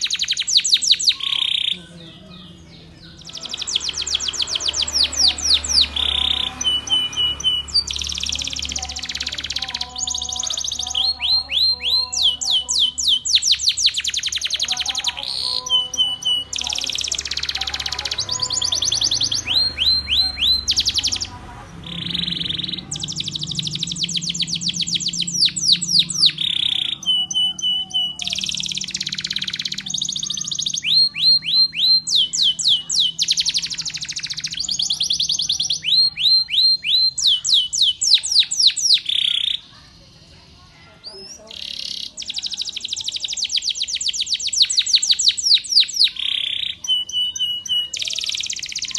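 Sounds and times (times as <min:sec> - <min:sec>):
canary singing: 0:00.0 - 0:48.9.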